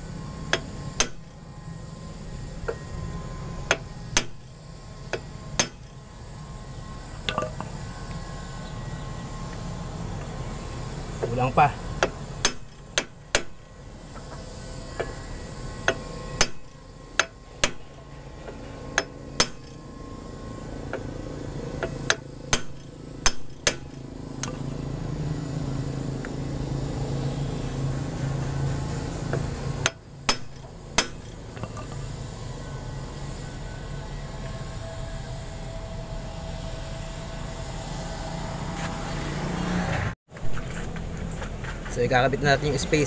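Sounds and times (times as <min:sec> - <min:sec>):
low engine drone: 0:00.0 - 0:43.0.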